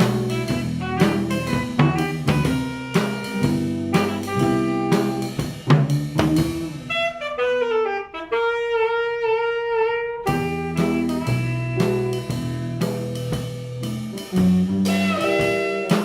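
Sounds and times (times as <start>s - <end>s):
drum kit: 0.0s - 9.2s, 10.1s - 16.0s
jazz band playing: 0.0s - 16.0s.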